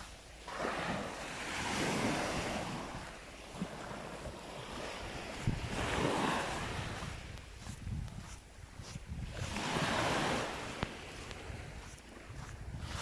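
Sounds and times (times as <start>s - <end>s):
waves washing up a beach: 0.0s - 13.0s
wind buffeting microphone: 0.0s - 13.0s.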